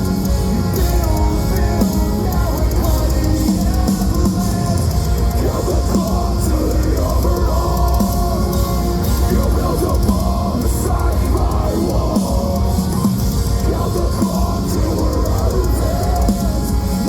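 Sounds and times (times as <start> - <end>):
heavy metal band playing: 0.0 - 17.0.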